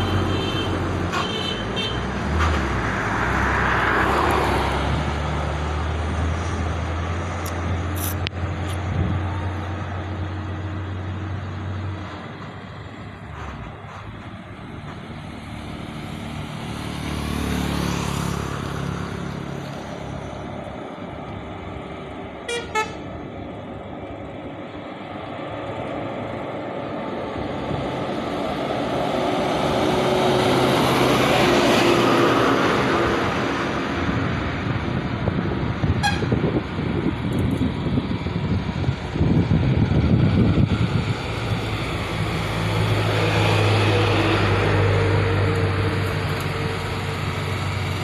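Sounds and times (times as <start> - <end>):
motor vehicles passing: 0.0 - 48.0.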